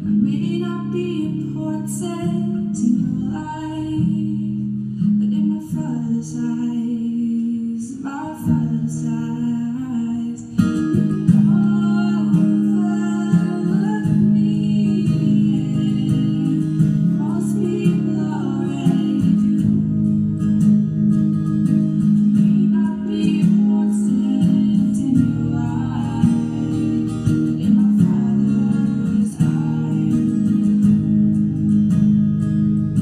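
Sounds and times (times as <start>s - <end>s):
woman singing: 0.0s - 20.7s, 21.6s - 31.4s
acoustic guitar chords: 0.0s - 33.0s.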